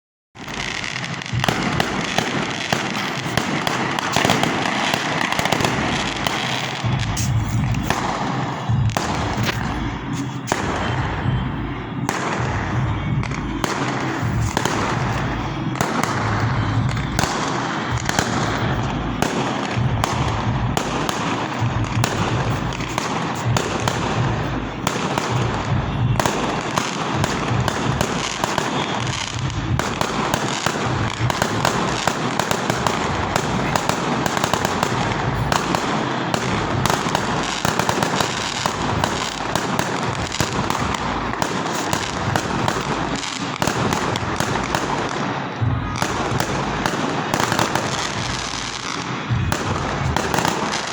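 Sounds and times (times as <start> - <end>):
firecrackers crackling: 0.4 - 50.9
fireworks low thuds: 0.4 - 50.9.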